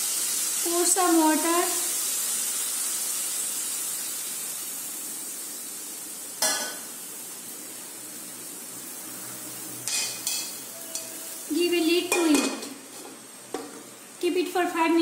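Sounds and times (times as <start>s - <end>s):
water sizzling in a hot wok: 0.0s - 15.0s.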